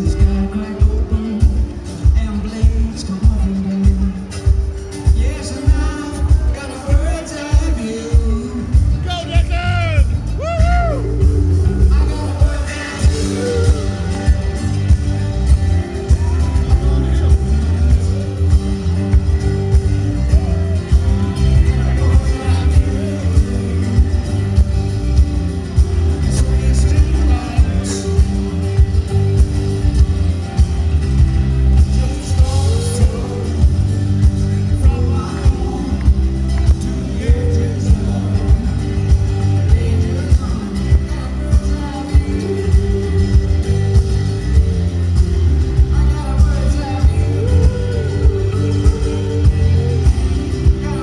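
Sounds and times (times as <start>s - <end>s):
person singing: 0.0s - 51.0s
rock band playing live: 0.0s - 51.0s
steady drum beat: 0.0s - 51.0s.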